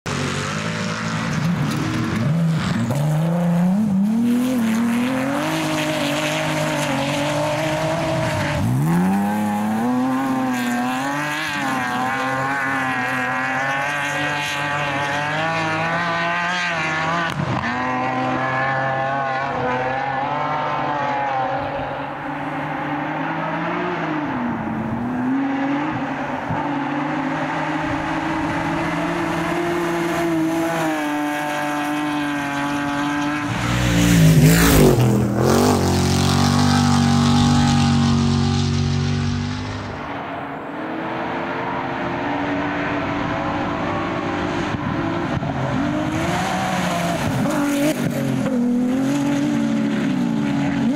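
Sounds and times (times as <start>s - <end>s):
racing buggy engines revving: 0.0s - 50.9s.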